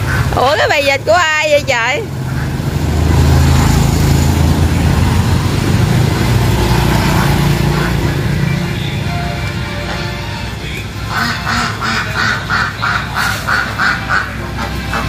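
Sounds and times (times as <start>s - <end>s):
motorbike engines droning: 0.0s - 15.0s.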